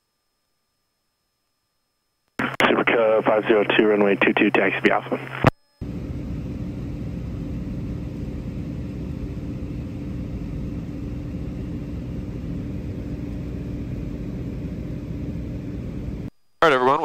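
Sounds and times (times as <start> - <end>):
airplane engine droning in cabin: 2.5 - 16.3.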